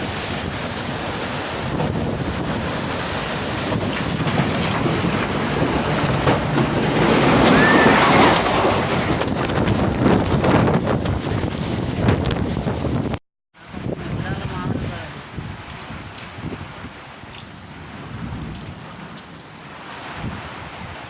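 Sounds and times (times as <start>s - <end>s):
storm wind gusting on microphone: 0.0s - 21.0s.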